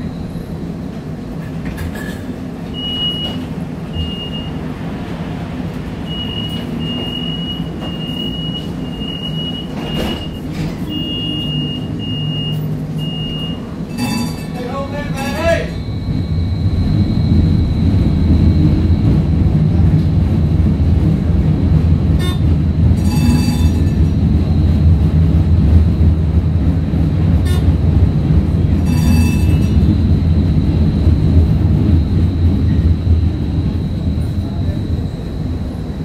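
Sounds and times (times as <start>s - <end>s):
streetcar rumble with high whine: 0.0s - 36.0s.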